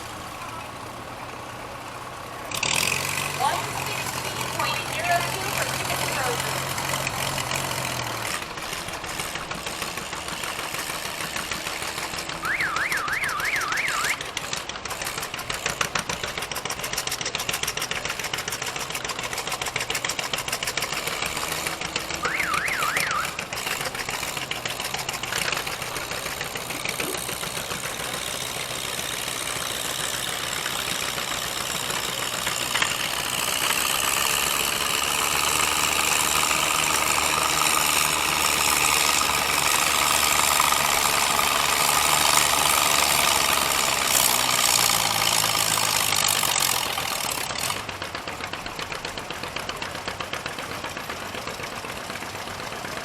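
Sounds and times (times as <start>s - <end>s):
tractor engine clattering: 0.0s - 53.0s.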